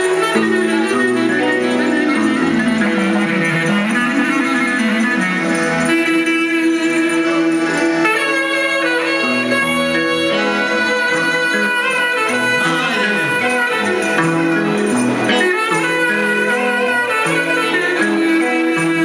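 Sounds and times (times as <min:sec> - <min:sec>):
clarinet: 0:00.0 - 0:19.0
guitar: 0:00.0 - 0:19.0
violin: 0:00.0 - 0:19.0.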